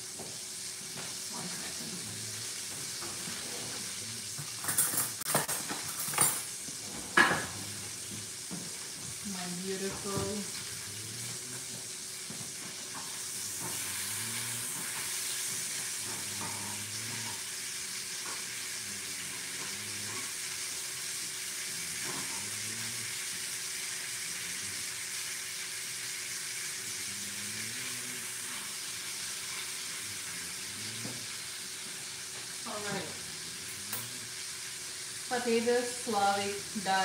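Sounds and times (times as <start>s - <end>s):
food sizzling in frying pan: 0.0s - 37.0s.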